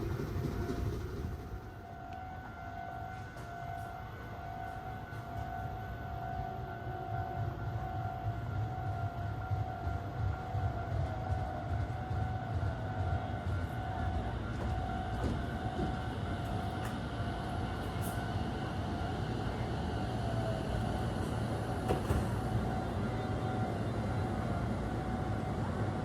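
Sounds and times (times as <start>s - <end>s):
electric train rumble: 0.0s - 26.0s.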